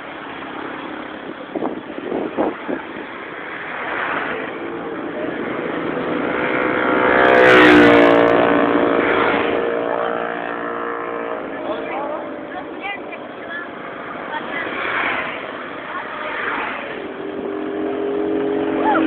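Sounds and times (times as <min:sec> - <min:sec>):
motorcycle engine passing by: 0:03.4 - 0:19.0.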